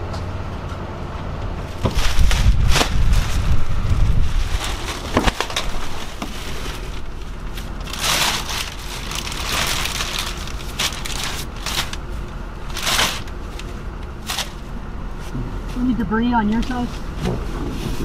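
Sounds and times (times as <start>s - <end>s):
plastic garbage bag rustling: 1.6s - 18.0s.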